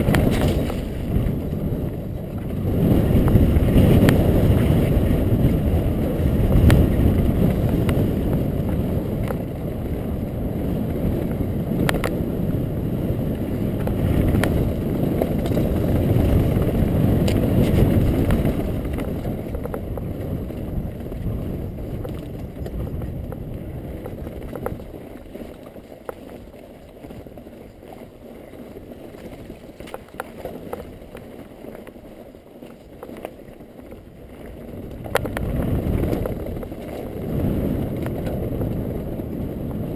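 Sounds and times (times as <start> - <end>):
bike rattling: 0.0 - 39.9
bike tyres rolling on rocky trail: 0.0 - 39.9
wind buffeting microphone: 0.0 - 39.9.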